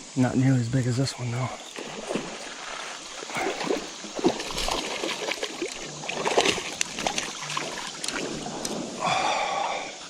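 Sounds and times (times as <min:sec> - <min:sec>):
creek water splashing: 0:00.5 - 0:10.0.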